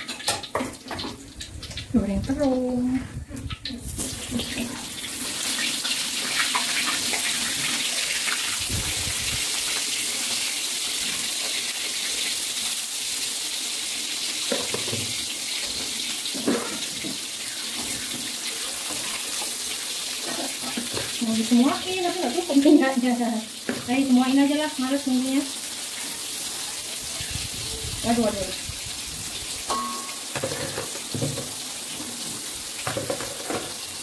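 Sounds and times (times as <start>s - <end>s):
eggplant sizzling in hot oil: 0.0s - 34.0s.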